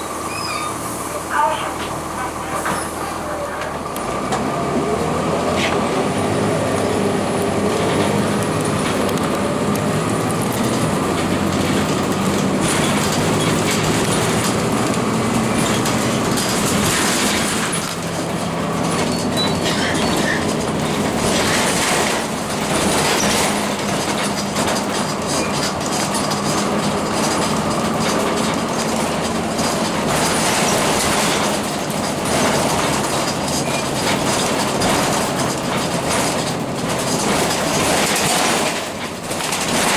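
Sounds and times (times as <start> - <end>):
diesel bus engine running: 0.0 - 39.9
road noise: 0.0 - 39.9
rattles and knocks: 7.7 - 39.9.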